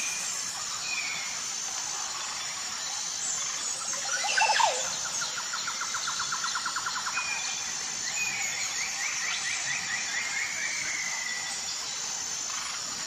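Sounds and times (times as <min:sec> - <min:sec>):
high insect drone: 0:00.0 - 0:13.0
jungle birds calling: 0:00.0 - 0:13.0.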